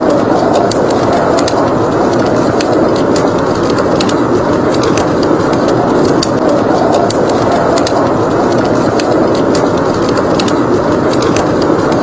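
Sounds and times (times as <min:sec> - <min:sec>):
blizzard wind rushing: 0:00.0 - 0:12.0
wood fire crackling and popping: 0:00.0 - 0:12.0.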